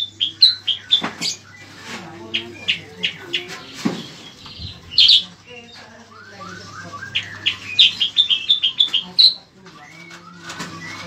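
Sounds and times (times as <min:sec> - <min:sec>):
songbird chirping and singing: 0:00.0 - 0:11.0.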